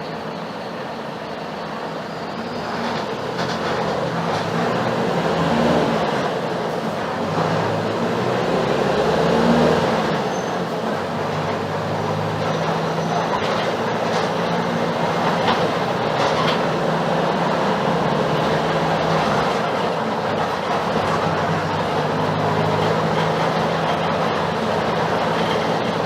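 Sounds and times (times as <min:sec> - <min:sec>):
bus diesel engine drone: 0:00.0 - 0:26.0
road noise: 0:00.0 - 0:26.0.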